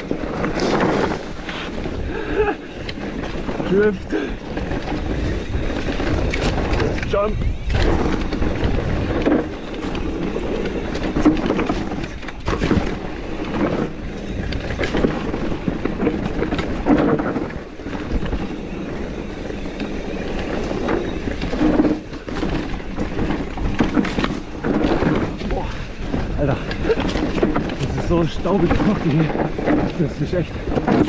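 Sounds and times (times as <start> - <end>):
bike knocking and rattling: 0.0 - 31.0
bike tyres on loose dirt: 0.0 - 31.0
wind on microphone: 0.0 - 31.0.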